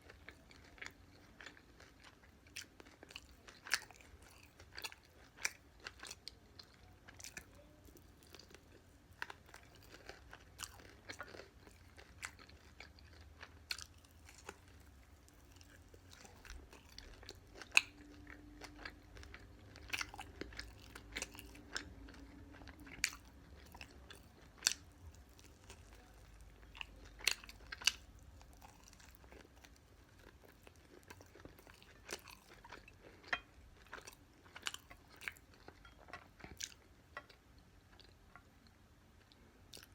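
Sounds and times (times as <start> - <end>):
chewing and crunching fried chicken: 0.0 - 39.9.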